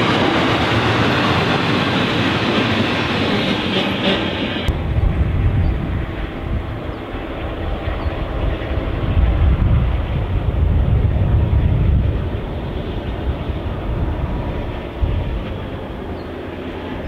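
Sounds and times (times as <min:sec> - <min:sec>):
diesel locomotive engine rumble: 0:00.0 - 0:17.0.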